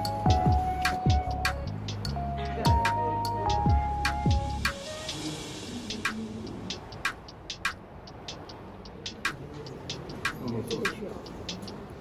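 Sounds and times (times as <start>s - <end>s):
quiet background music: 0.0s - 12.0s
sharp clicking percussion: 0.0s - 12.0s.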